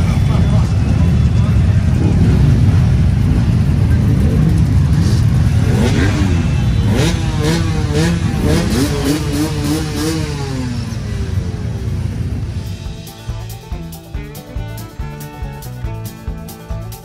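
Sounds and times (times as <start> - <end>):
motorcycle engines rumbling: 0.0 - 17.0
motorcycles revving: 0.0 - 17.0.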